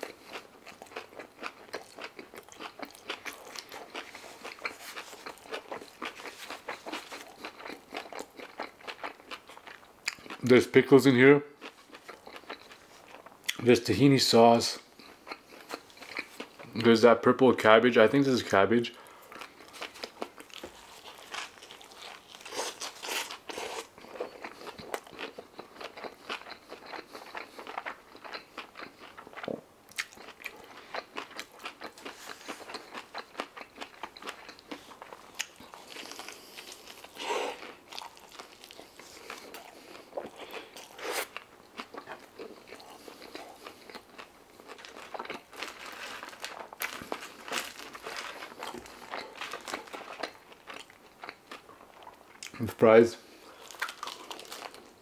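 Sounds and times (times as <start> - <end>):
chewing with wet mouth smacks: 0.0 - 10.5, 11.6 - 13.6, 14.9 - 16.8, 19.0 - 52.6, 53.5 - 55.0.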